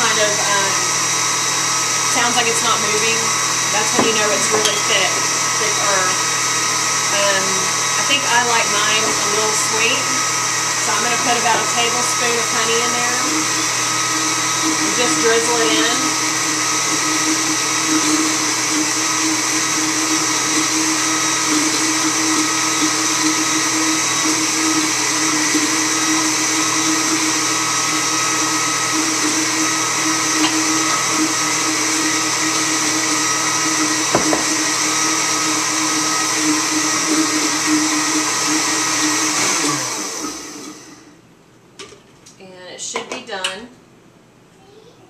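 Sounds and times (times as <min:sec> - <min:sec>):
blender motor running: 0:00.0 - 0:41.2.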